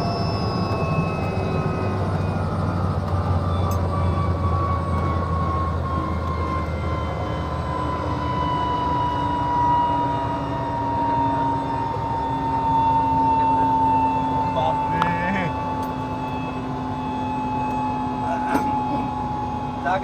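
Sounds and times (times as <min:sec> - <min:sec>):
helicopter engine whine: 0:00.0 - 0:20.0
low rotor hum: 0:00.0 - 0:20.0.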